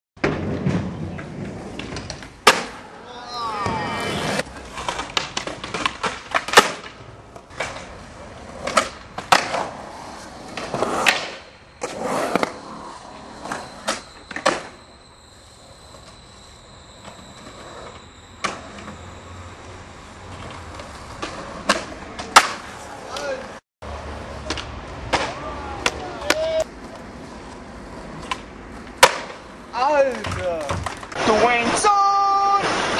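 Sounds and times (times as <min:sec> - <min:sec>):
skateboards clacking and landing: 0:00.2 - 0:14.8, 0:20.2 - 0:23.5, 0:24.2 - 0:32.9
skateboard wheels rolling on concrete: 0:00.2 - 0:32.9.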